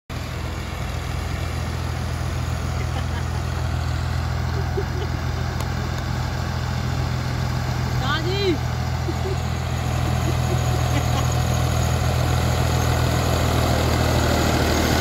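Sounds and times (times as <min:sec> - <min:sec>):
tractor diesel engine under load: 0:00.1 - 0:15.0.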